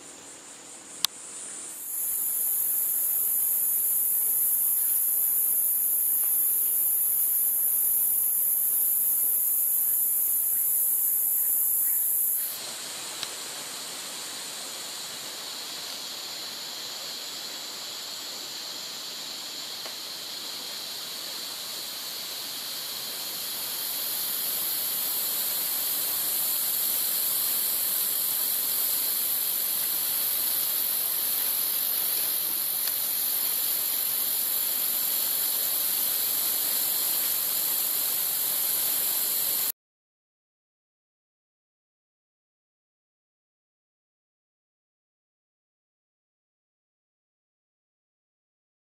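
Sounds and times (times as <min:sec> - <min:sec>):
high-pitched insect drone: 0:00.0 - 0:39.7.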